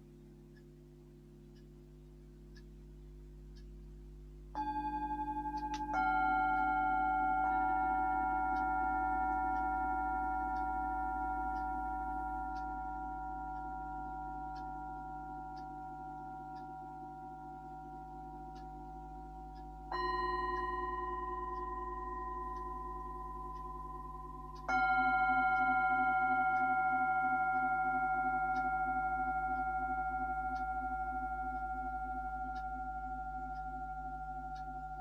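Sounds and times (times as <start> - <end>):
singing bowls ringing: 4.5 - 35.0
singing bowl struck: 4.6 - 35.0.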